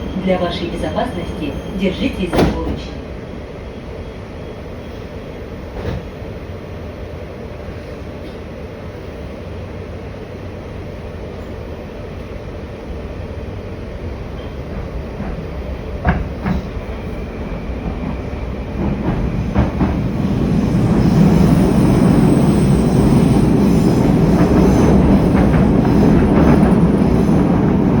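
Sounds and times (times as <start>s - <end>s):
train wheel and track rumble: 0.0s - 28.0s.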